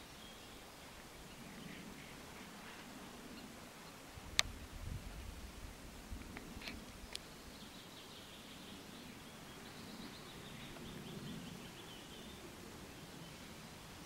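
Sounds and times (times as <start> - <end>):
small bird singing faintly: 0.0 - 4.1, 6.5 - 14.0.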